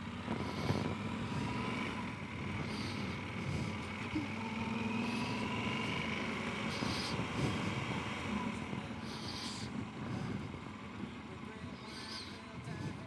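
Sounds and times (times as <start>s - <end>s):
vehicle rumbling along road: 0.0s - 13.0s.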